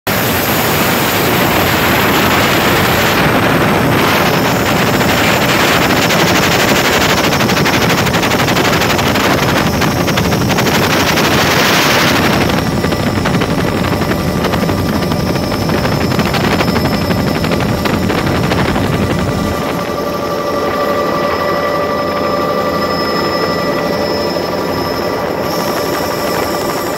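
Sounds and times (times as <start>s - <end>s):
helicopter turbine and rotor: 0.1s - 26.9s.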